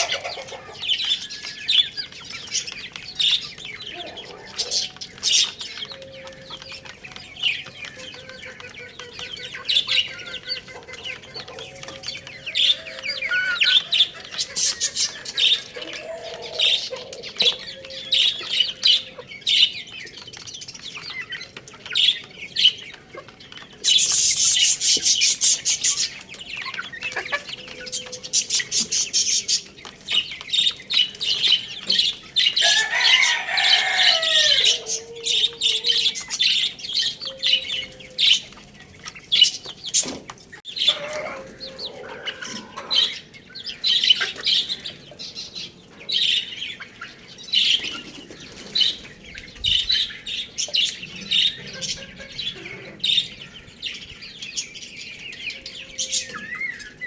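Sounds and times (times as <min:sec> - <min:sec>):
hen clucking: 0:00.0 - 0:53.4
chicks chirping: 0:00.0 - 0:57.0.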